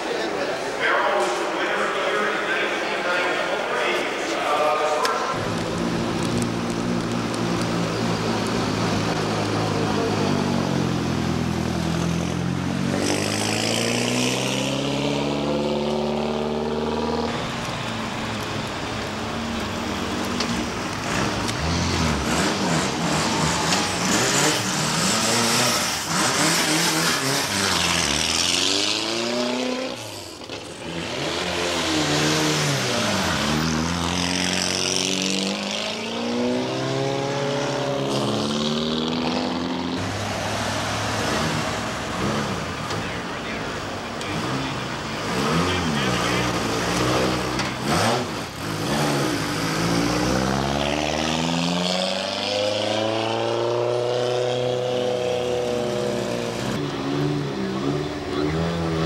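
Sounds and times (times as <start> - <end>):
rally car engines accelerating: 0.0 - 59.0.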